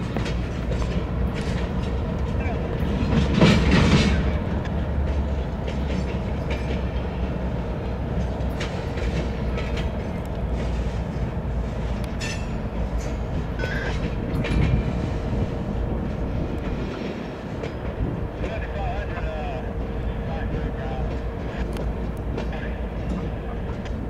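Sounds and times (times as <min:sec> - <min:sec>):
freight train rumbling: 0:00.0 - 0:24.0
wheels and couplers clanking: 0:00.0 - 0:24.0.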